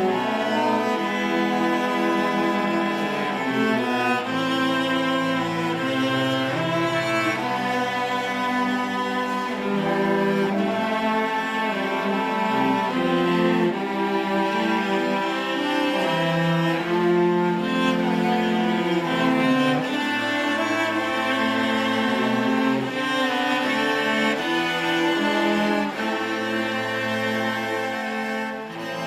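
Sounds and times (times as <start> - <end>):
string orchestra playing: 0.0 - 29.0.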